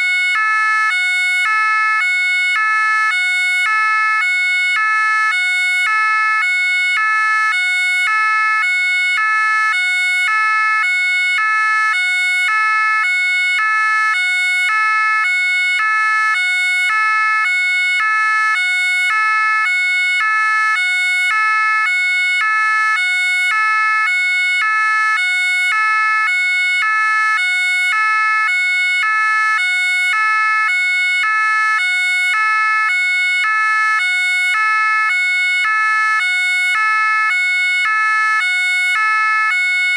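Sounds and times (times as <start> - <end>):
two-tone siren: 0.0 - 39.9.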